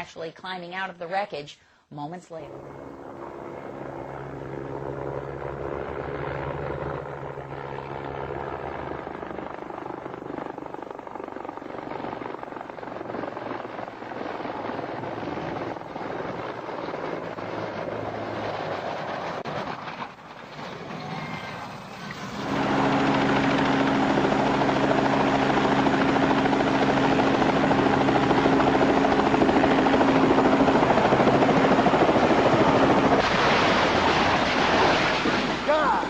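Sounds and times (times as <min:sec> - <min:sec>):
helicopter rotor and engine drone: 0:02.4 - 0:36.0.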